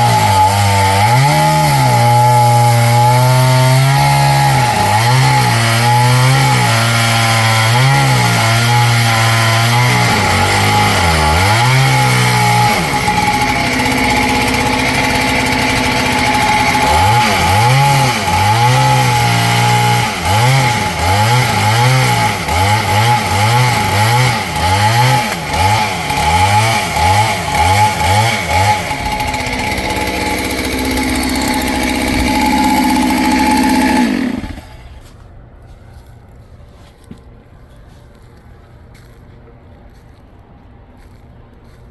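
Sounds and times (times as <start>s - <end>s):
chainsaw engine revving: 0.0s - 34.9s.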